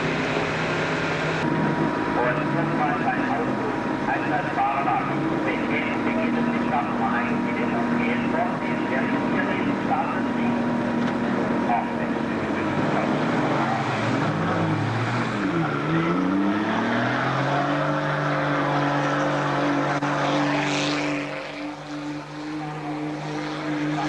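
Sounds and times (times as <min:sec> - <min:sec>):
racing car engine running: 0:00.0 - 0:24.0.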